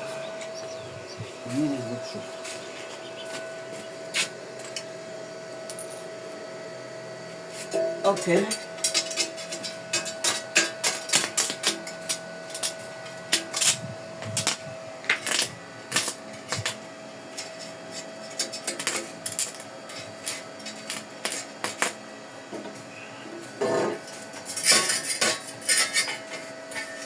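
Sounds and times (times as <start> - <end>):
steady high hum: 0.0 - 27.0.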